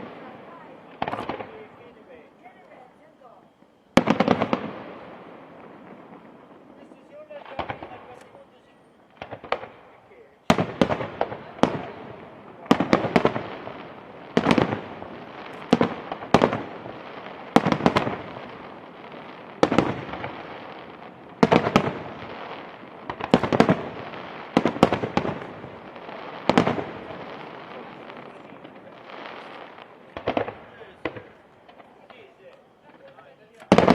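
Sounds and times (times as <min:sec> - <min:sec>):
fireworks bursting: 0:00.0 - 0:33.9.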